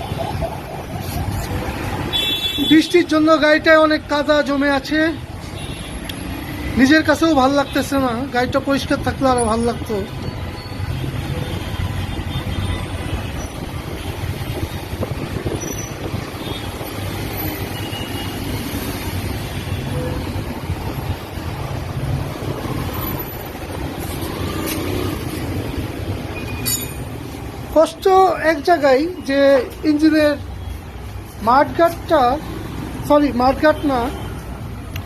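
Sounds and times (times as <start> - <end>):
vehicle engines rumbling: 0.0 - 35.0.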